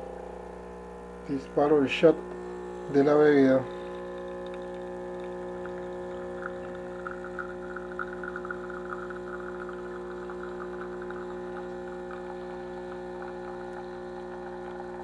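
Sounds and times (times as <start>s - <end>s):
espresso machine pump humming: 0.0s - 15.0s.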